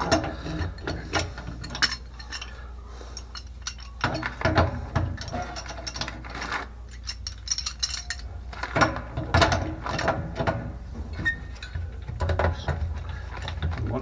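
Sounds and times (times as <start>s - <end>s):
hand tools clicking on metal pipe: 0.0s - 13.9s.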